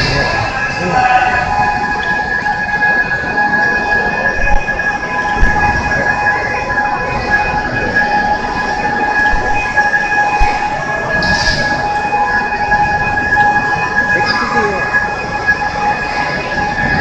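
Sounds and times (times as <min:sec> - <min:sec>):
overhead crane whining and rumbling: 0:00.0 - 0:17.0.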